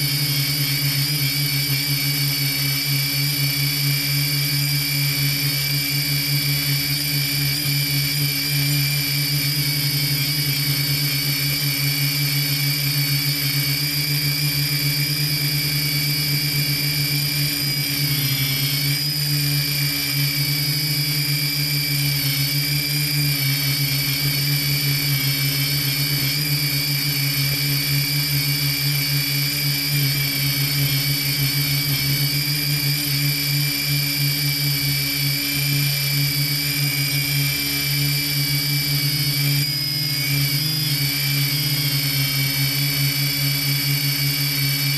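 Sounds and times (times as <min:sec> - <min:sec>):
drone propellers buzzing: 0:00.0 - 0:44.9.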